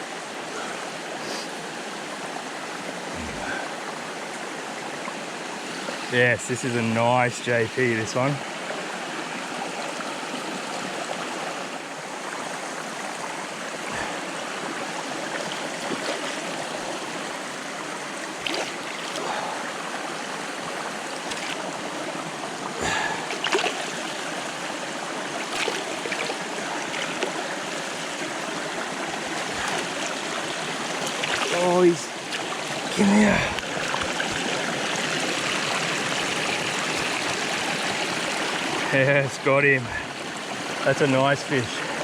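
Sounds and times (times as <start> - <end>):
creek running over rocks: 0.0 - 42.0.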